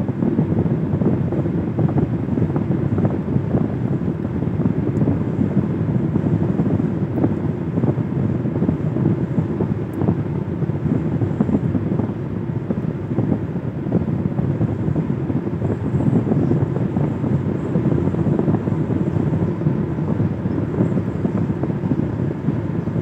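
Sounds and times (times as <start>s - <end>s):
car interior road rumble: 0.0s - 23.0s
tyre and wind noise: 0.0s - 23.0s.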